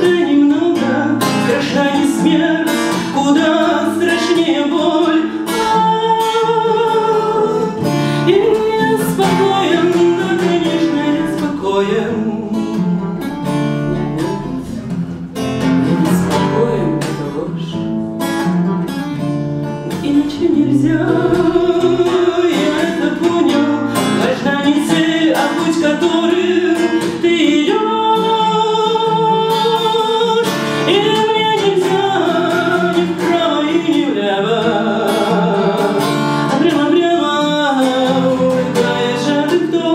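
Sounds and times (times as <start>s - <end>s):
woman singing: 0.0s - 15.0s, 15.6s - 17.9s, 19.8s - 39.9s
acoustic guitar: 0.0s - 39.9s.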